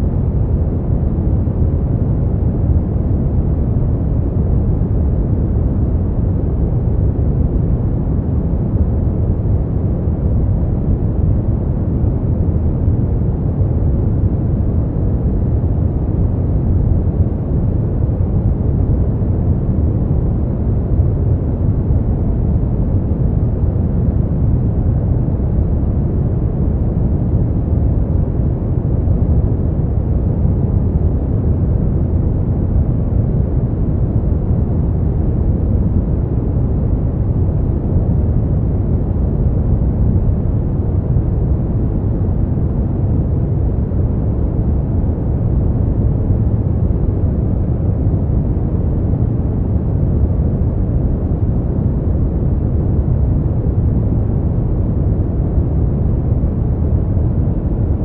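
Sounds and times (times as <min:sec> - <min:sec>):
deep rumbling brown noise: 0:00.0 - 0:58.0.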